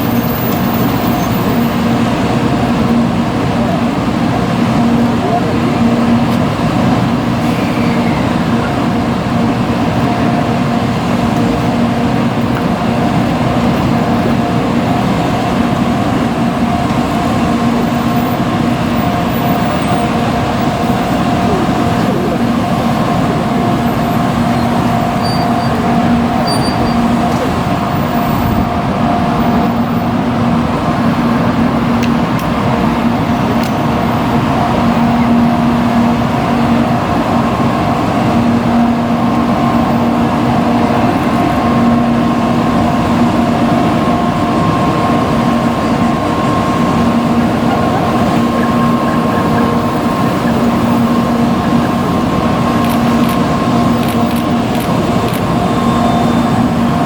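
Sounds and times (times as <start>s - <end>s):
vehicle running rumble: 0.0s - 57.0s.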